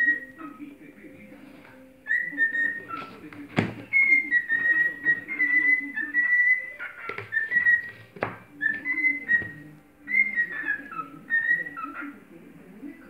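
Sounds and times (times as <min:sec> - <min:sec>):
cockatiel whistling: 0:00.0 - 0:00.7, 0:02.0 - 0:12.2.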